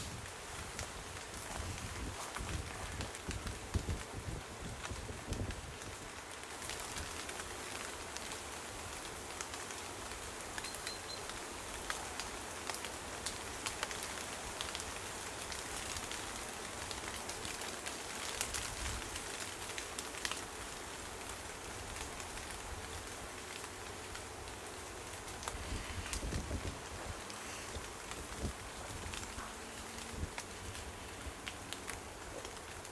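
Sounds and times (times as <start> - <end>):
light rain pattering: 0.0 - 32.9.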